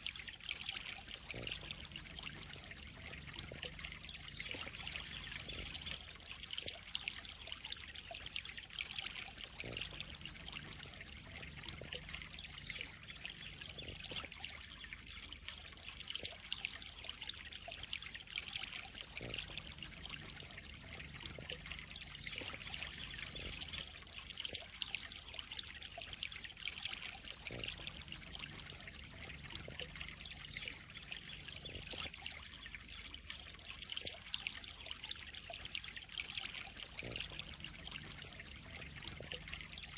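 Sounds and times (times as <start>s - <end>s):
small drips and splashes: 0.0s - 39.9s
water trickling into pond: 0.0s - 39.9s.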